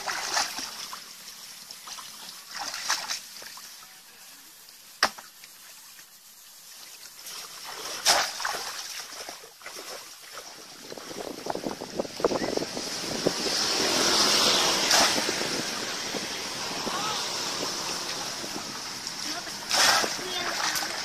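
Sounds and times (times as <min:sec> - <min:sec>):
muddy water splashing: 0:00.0 - 0:21.0.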